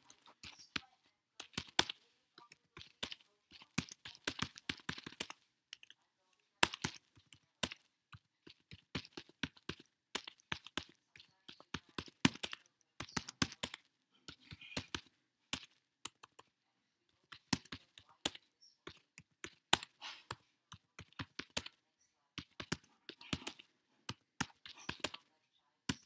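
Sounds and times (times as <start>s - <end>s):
computer keyboard typing: 0.0s - 26.0s.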